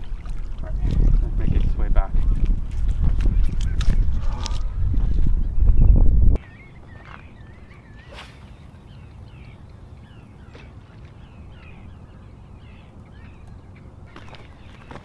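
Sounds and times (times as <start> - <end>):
birds chirping: 2.8 - 15.0.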